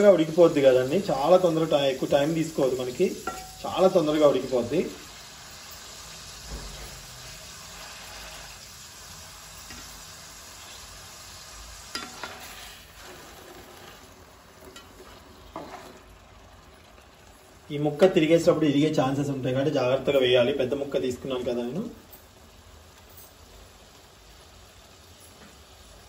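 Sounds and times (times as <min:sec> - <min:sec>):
fish sizzling in oil: 0:00.0 - 0:26.0.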